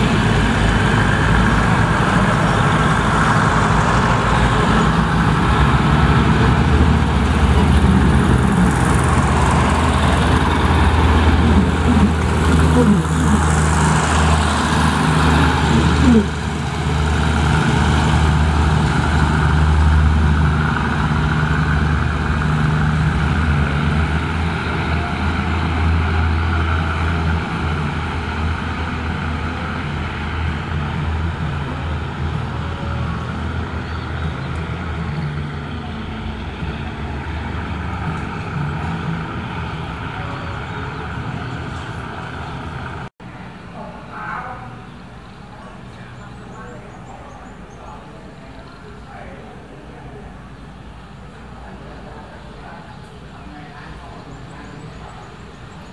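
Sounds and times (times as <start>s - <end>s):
diesel railcar engine drone: 0.0s - 55.9s.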